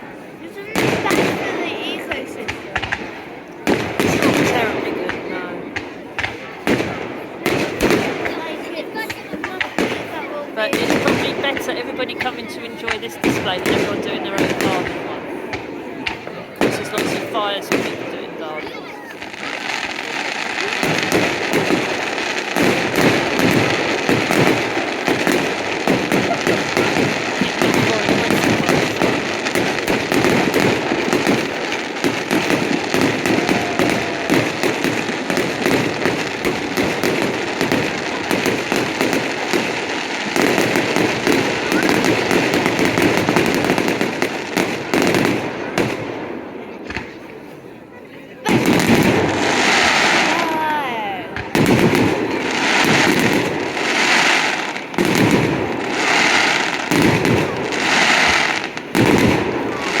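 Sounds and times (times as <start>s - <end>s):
fireworks crackling and popping: 0.0s - 60.0s.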